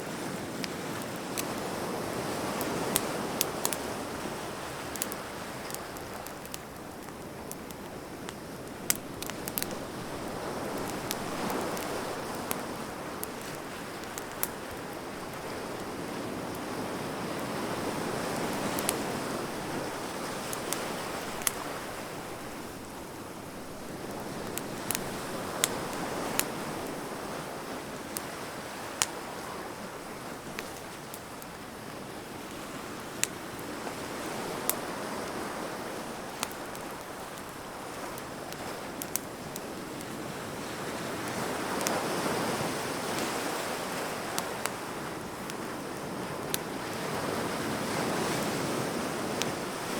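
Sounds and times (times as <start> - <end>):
wood fire crackling and popping: 0.1 - 49.9.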